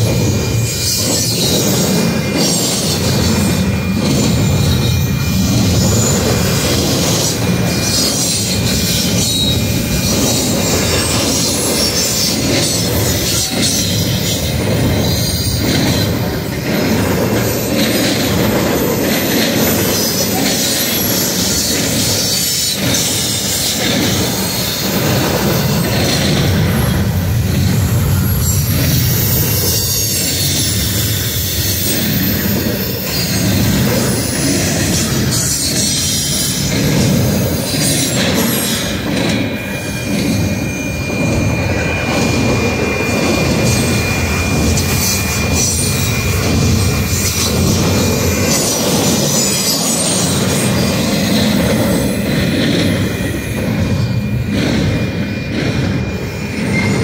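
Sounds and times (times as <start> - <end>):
high wheel squeal: 0.0 - 57.0
train wheels rumbling on rails: 0.0 - 57.0.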